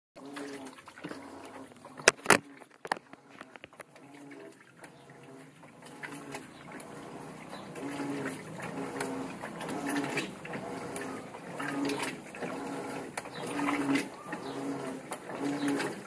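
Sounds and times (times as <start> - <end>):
washing machine motor hum: 0.2 - 16.0
water sloshing: 0.2 - 16.0.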